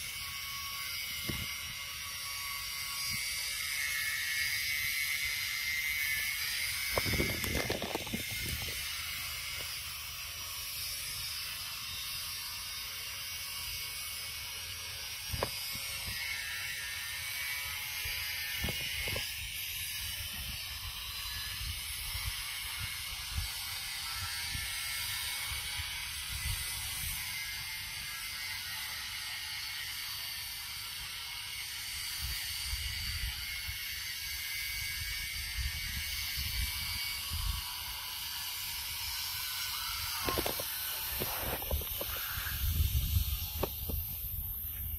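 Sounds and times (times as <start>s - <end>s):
insects droning and rasping: 0.0s - 44.9s.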